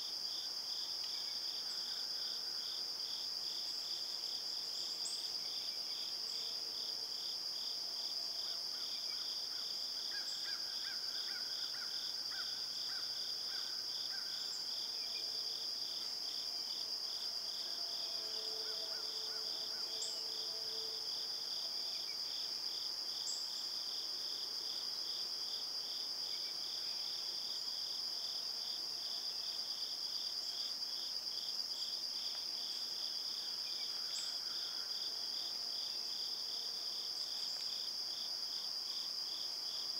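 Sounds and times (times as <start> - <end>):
crickets trilling: 0.3 - 39.9.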